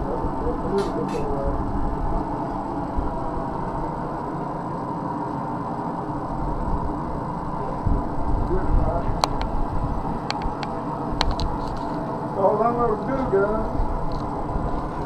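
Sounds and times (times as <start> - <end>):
forge blowing: 0.0 - 15.0.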